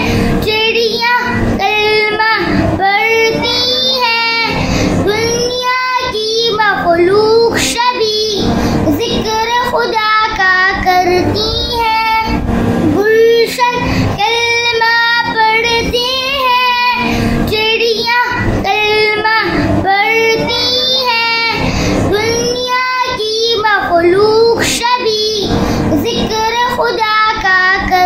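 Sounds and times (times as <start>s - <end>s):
boy singing devotional song: 0.0s - 28.0s.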